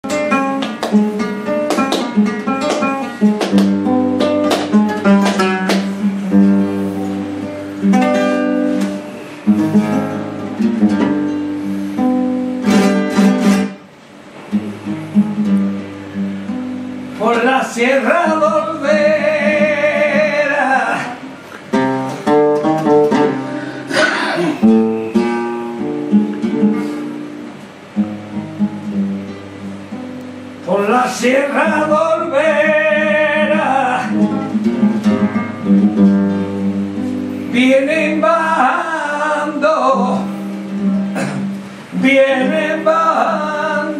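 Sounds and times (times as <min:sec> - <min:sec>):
flamenco guitar playing: 0:00.0 - 0:43.9.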